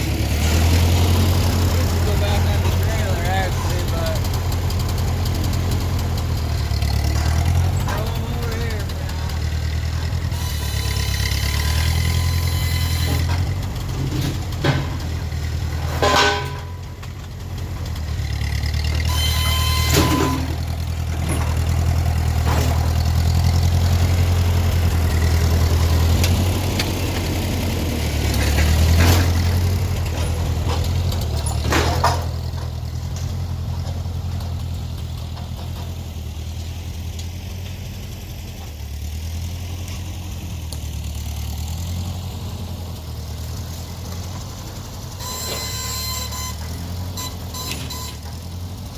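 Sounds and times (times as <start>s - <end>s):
gas engine running: 0.0s - 48.9s.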